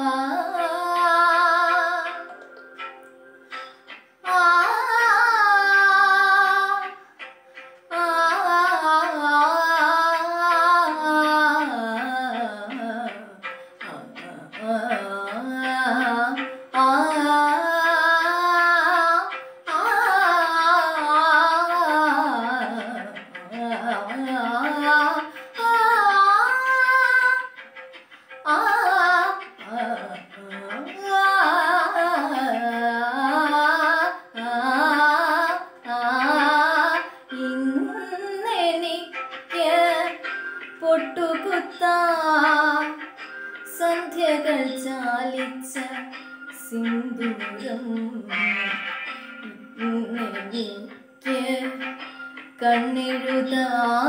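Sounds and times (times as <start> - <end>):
girl singing: 0.0 - 7.0, 7.9 - 27.6, 28.4 - 43.1, 43.7 - 48.8, 49.4 - 52.0, 52.6 - 54.0.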